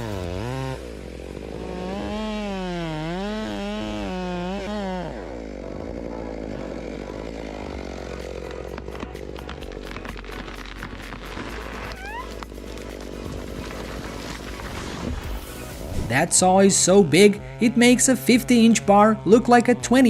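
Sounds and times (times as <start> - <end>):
chainsaw engine running: 0.0 - 20.0.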